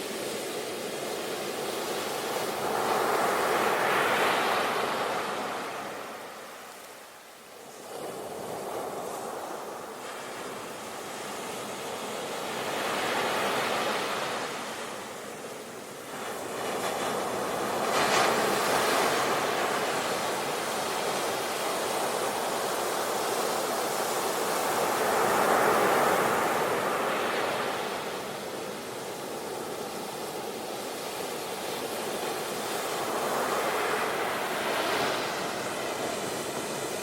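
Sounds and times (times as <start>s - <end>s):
sea waves breaking on shore: 0.0s - 7.0s, 7.7s - 37.0s.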